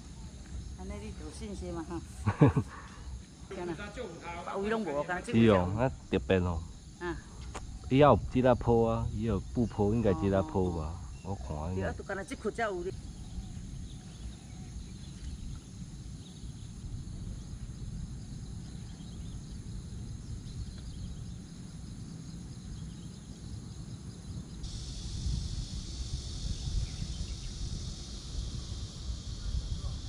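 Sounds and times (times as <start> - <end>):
high insect buzz: 0.0 - 30.0.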